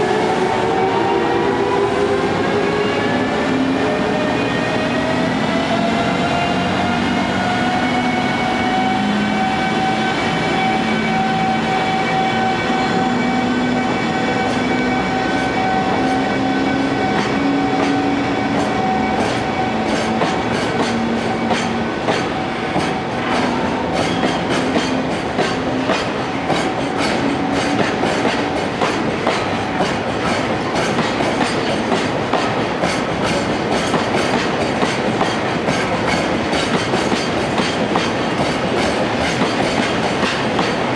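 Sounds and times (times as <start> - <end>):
electric locomotive whine: 0.0 - 40.9.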